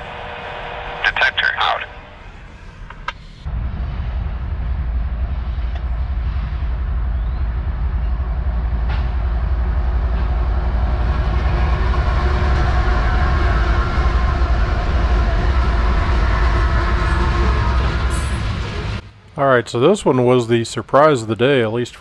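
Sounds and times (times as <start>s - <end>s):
faint steady tones: 0.0s - 22.0s
freight train rumbling past: 0.0s - 22.0s.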